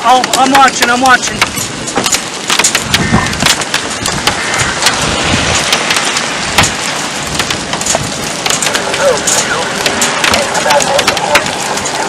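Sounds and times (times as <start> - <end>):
heavy rain beating on a vehicle: 0.0 - 12.0.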